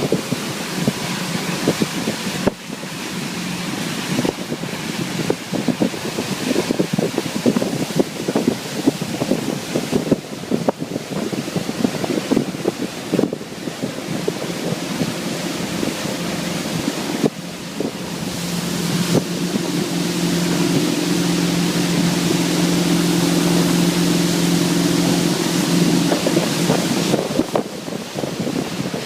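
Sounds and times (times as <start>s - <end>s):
motorboat engine drone: 0.0s - 29.0s
water noise: 0.0s - 29.0s
wind on microphone: 0.0s - 29.0s.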